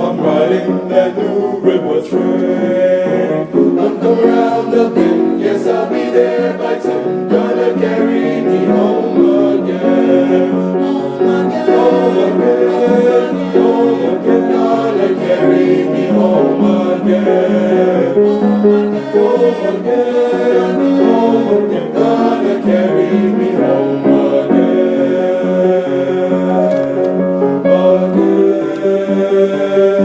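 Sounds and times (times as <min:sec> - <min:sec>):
male choir singing in harmony: 0:00.0 - 0:30.0.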